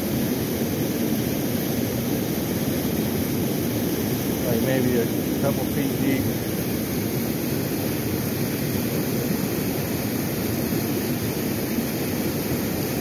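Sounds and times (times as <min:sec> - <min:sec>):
river water rushing over weir: 0:00.0 - 0:13.0.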